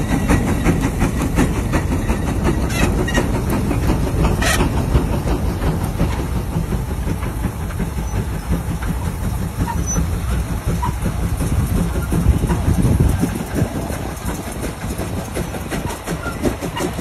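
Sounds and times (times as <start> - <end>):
heavy machinery rumble and clatter: 0.0 - 17.0.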